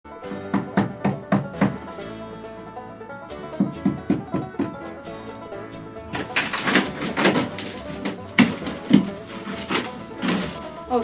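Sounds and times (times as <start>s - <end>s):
bluegrass banjo picking: 0.0s - 11.0s.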